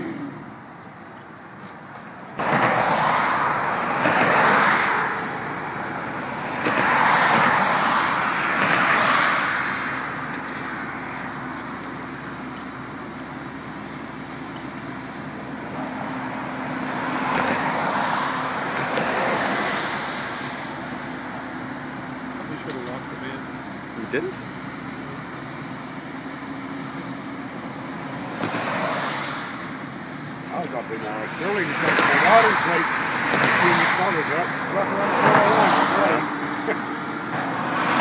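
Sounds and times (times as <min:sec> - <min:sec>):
highway traffic passing: 0:00.0 - 0:38.0.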